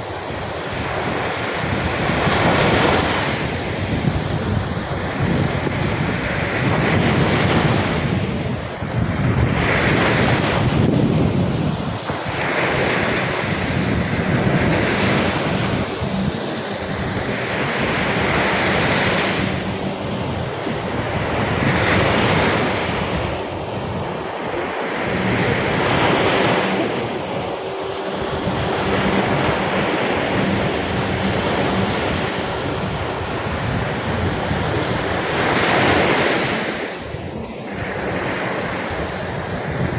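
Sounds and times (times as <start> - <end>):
surf breaking on beach: 0.0 - 39.9
wind buffeting microphone: 0.0 - 39.9.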